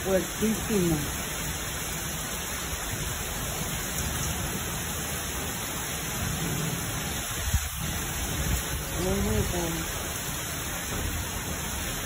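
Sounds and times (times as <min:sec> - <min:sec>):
heavy rain on concrete: 0:00.0 - 0:12.0.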